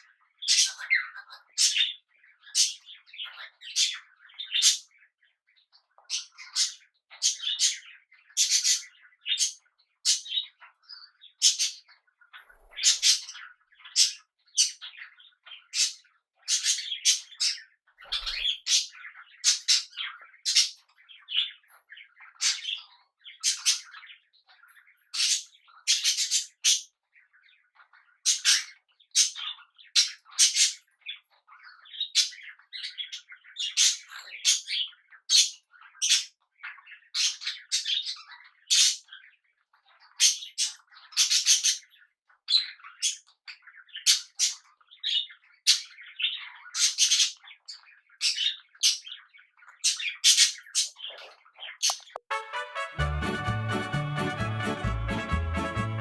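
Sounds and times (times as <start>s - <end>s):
birds calling loudly: 0.0s - 52.3s
birds chattering softly: 0.0s - 52.3s.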